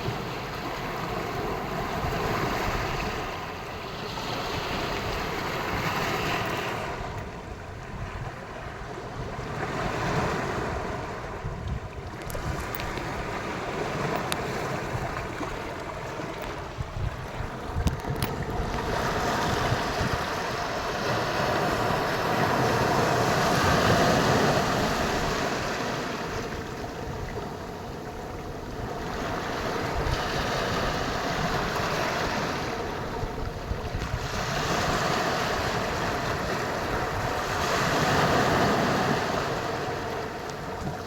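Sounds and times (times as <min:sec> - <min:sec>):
ocean waves washing on shore: 0:00.0 - 0:41.0.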